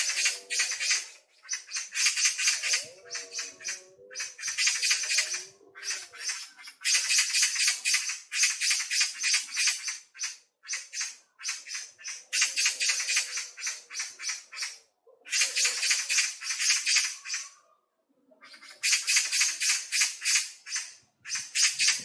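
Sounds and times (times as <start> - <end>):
songbirds chattering trills: 0.0 - 22.0.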